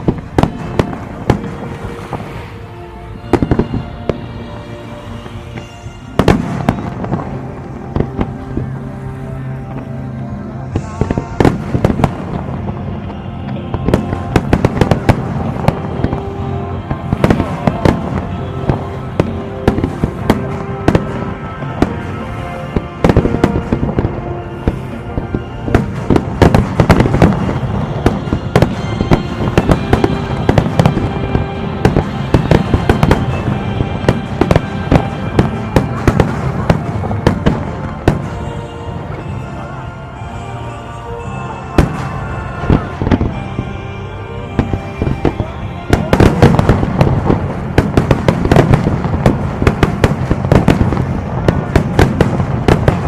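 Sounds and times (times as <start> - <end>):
fireworks bangs and crackling: 0.0 - 53.0
music playing: 0.0 - 53.0.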